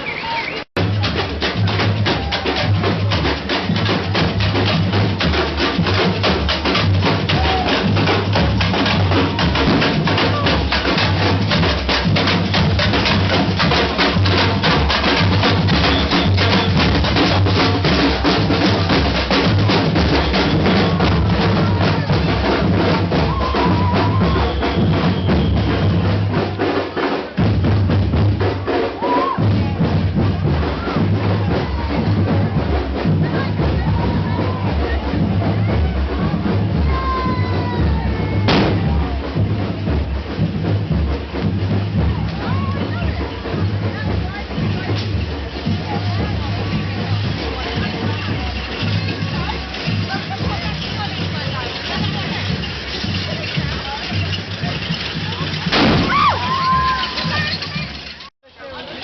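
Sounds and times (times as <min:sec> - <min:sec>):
drum-led music: 0:00.0 - 0:59.0.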